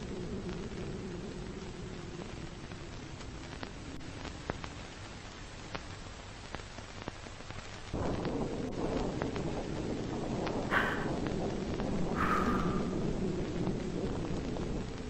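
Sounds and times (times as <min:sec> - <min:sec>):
static hiss: 0:00.0 - 0:09.2, 0:10.6 - 0:15.0.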